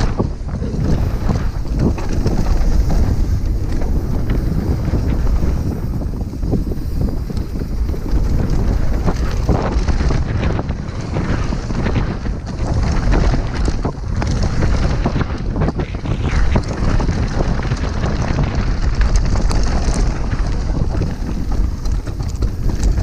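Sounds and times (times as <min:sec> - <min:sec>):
bike knocking and rattling: 0:00.0 - 0:23.0
tyre noise on dirt trail: 0:00.0 - 0:23.0
wind buffeting a camera: 0:00.0 - 0:23.0.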